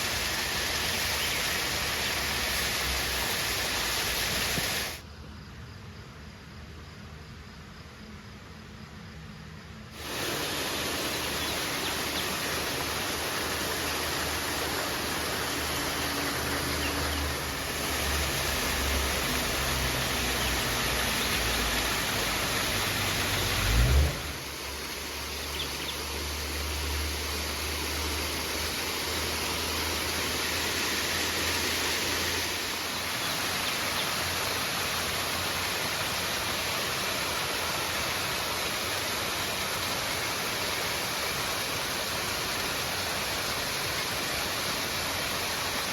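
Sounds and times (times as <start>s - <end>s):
river water rushing: 0.0s - 5.0s, 10.0s - 45.9s.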